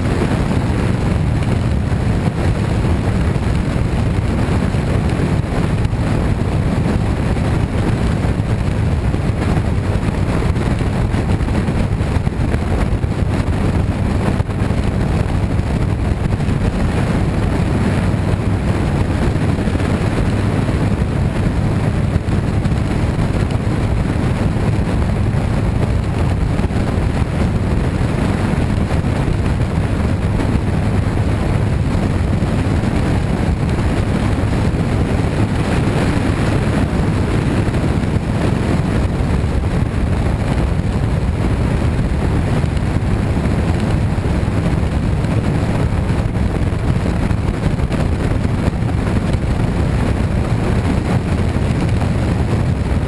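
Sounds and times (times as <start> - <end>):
motorcycle engine drone: 0.0 - 53.0
road noise: 0.0 - 53.0
wind noise: 0.0 - 53.0.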